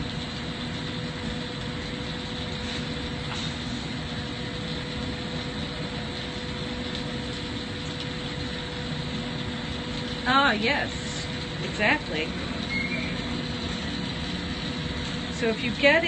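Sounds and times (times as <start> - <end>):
constant hum: 0.0 - 16.0
torch flame roaring: 0.0 - 16.0
ventilation running: 0.0 - 16.0.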